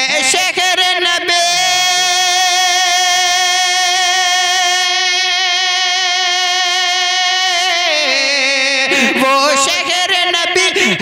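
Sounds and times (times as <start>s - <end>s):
man singing long note: 0.0s - 11.0s.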